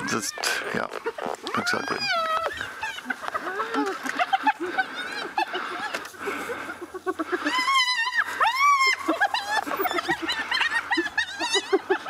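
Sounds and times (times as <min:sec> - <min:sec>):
wild dogs twittering and squealing: 0:00.0 - 0:12.0.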